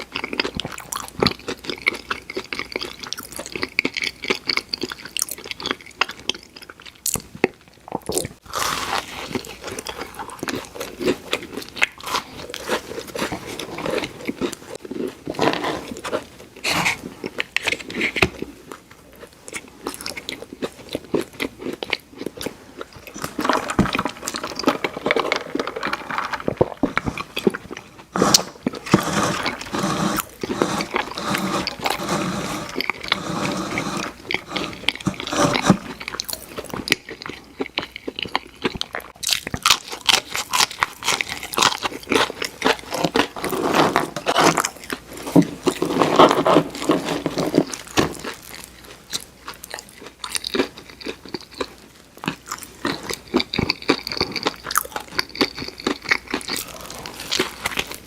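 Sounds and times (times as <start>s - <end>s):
crunching fried food: 0.0s - 58.0s.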